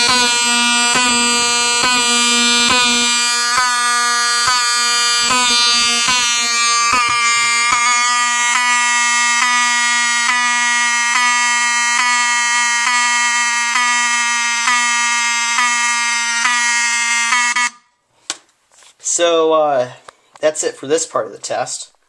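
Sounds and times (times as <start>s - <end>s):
fire alarm horn buzzing: 0.0s - 18.0s.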